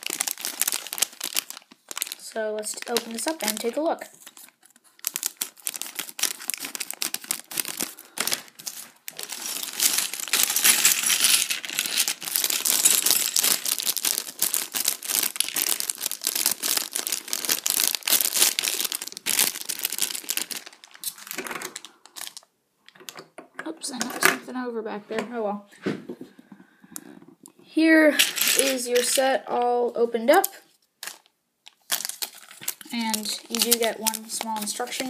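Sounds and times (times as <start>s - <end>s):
plastic bag crinkling: 0.0s - 22.5s, 28.1s - 29.4s, 30.3s - 35.0s.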